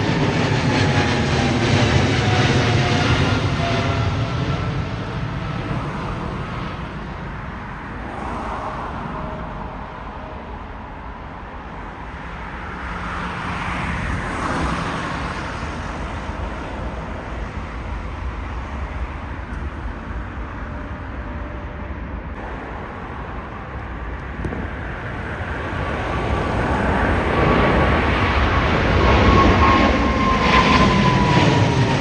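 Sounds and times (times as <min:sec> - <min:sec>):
distant jet engines: 0:00.0 - 0:32.0
jet airliner approaching: 0:00.0 - 0:32.0
road traffic: 0:00.0 - 0:32.0.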